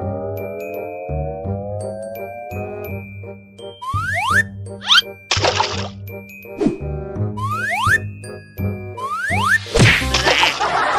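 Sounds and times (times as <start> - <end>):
playful cartoon music: 0.0 - 10.9.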